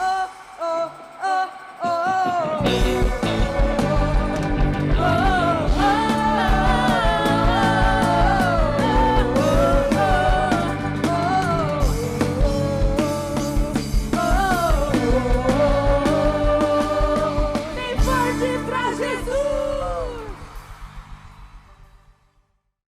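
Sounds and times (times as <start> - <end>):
person singing wordless melody: 0.0 - 20.5
band playing upbeat worship song: 0.0 - 21.6.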